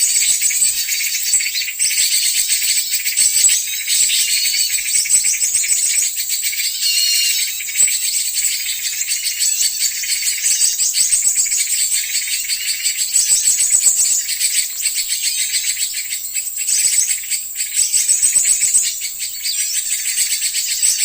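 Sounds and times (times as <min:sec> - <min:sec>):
small birds chattering and chirping: 0:00.0 - 0:21.0.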